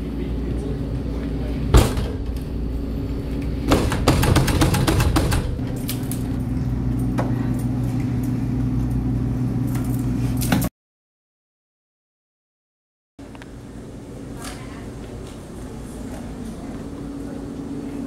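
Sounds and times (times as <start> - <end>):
steady low hum: 0.0 - 10.7, 13.2 - 18.0.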